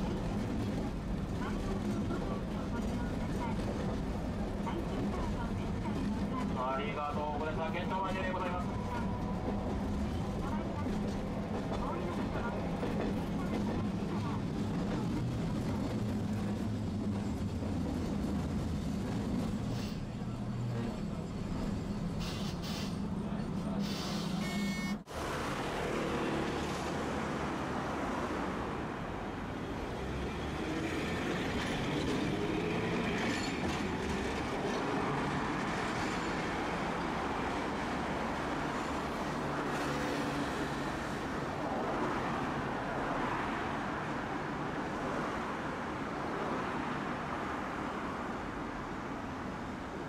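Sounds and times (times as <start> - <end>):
steel wheels rumbling on rail: 0.0 - 24.4, 25.1 - 45.3.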